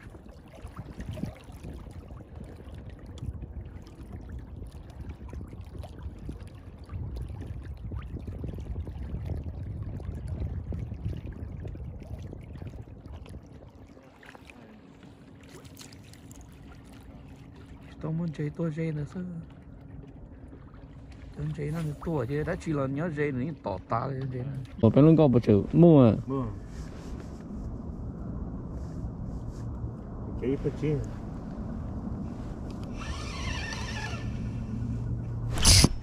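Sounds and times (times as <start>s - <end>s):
small waves lapping against boat: 0.0s - 28.1s, 28.7s - 36.0s
wind rumble on microphone: 0.0s - 36.0s.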